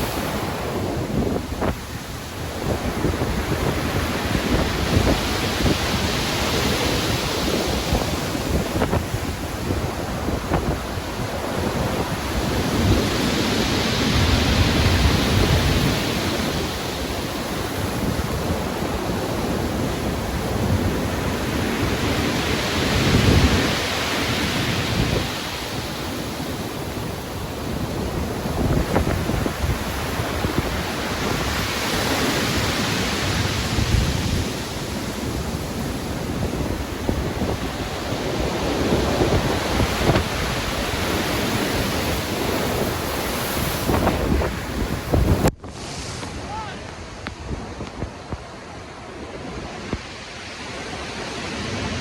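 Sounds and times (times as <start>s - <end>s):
ocean waves breaking: 0.0s - 52.0s
wind: 0.0s - 52.0s.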